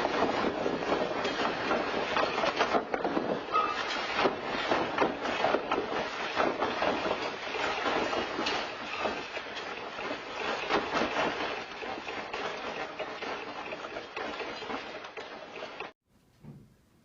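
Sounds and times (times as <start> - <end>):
loose objects rattling and clattering: 0.0 - 15.9.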